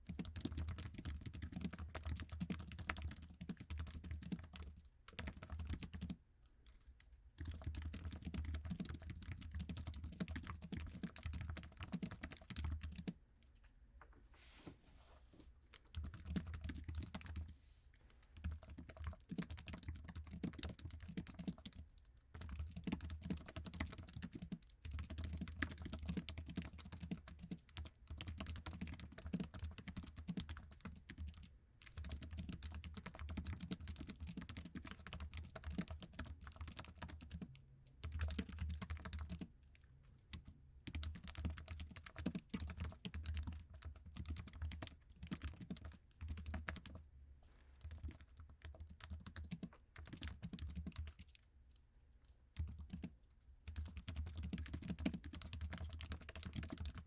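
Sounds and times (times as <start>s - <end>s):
fast keyboard typing: 0.0s - 6.2s, 7.4s - 13.2s, 15.7s - 17.5s, 18.3s - 47.0s, 47.8s - 51.4s, 52.6s - 53.1s, 53.7s - 57.0s.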